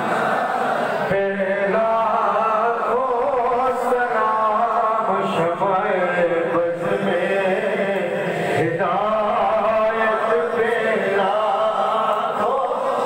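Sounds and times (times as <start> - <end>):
men chanting in unison: 1.0 - 13.0.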